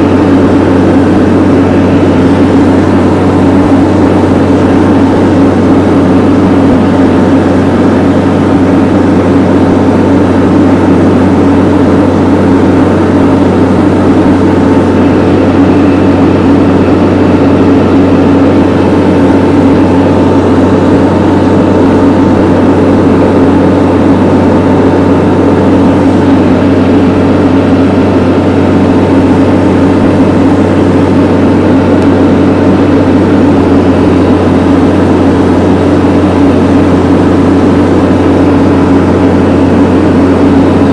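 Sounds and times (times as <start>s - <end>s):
vehicle engine running under load: 0.0s - 40.9s.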